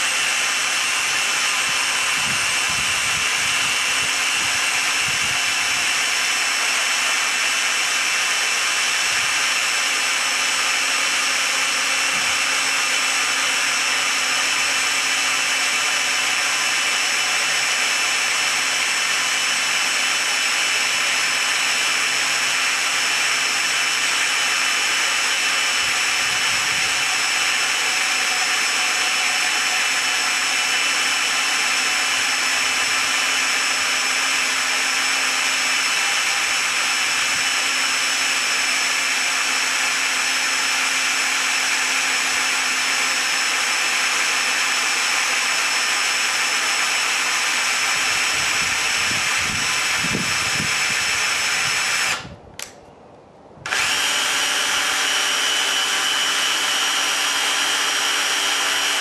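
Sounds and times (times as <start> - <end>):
cordless drill whining: 0.0 - 52.8, 53.6 - 59.0.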